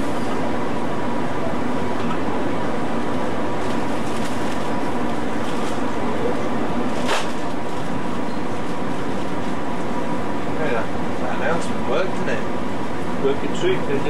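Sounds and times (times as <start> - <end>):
ship engine and ventilation drone: 0.0 - 14.0.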